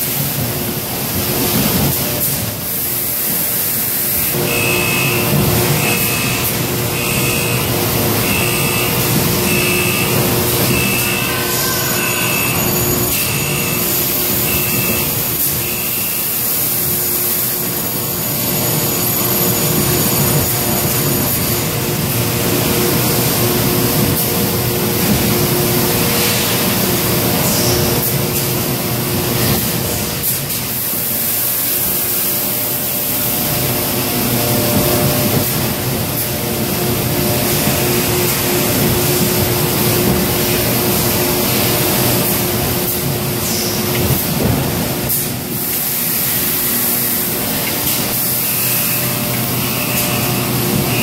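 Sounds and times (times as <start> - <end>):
loud machine hiss: 1.8 - 51.0.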